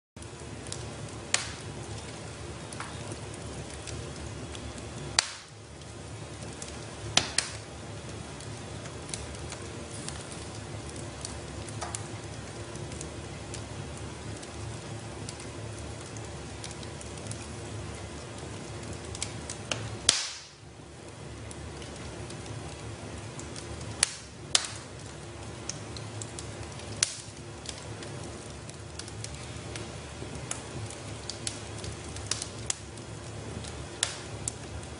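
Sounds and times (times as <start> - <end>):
wood fire crackling and popping: 0.2 - 34.9.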